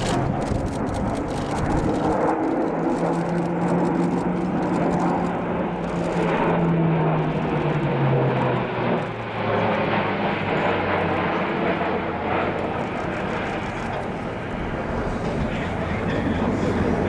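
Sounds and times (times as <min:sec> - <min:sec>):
turboprop aircraft droning: 0:00.0 - 0:17.0.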